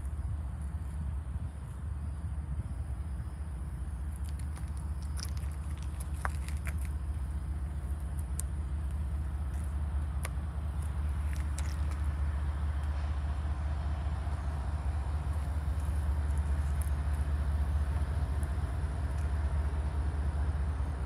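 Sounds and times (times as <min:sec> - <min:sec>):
diesel locomotive rumble: 0:00.0 - 0:21.0.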